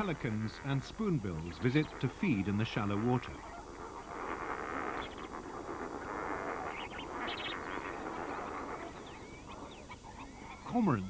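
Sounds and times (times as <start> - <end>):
flock of water birds chattering: 0.0 - 11.0.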